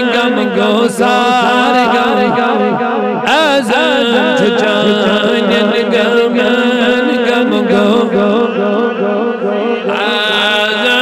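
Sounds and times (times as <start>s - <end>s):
man singing a long vowel: 0.0s - 11.0s.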